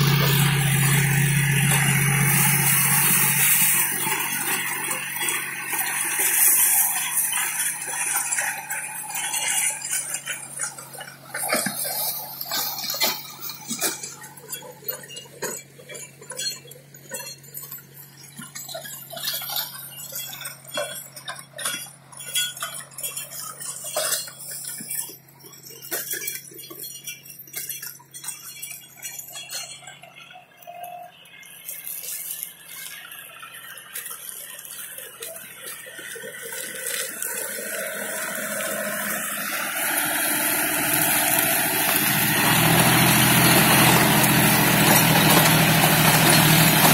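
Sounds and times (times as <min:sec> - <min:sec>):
tractor diesel engine: 0:00.0 - 0:46.9.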